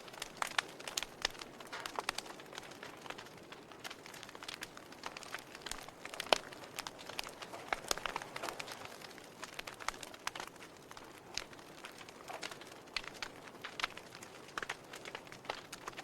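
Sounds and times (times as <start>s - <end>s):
soft steady hiss: 0.0s - 16.0s
wood fire crackling and popping: 0.0s - 16.0s.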